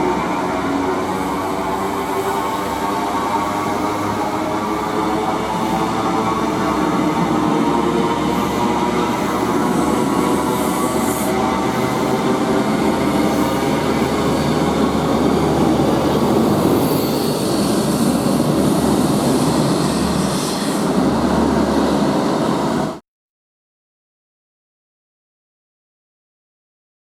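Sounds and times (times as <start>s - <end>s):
diesel locomotive engine running: 0.0s - 23.0s
train rumbling on rails: 0.0s - 23.0s.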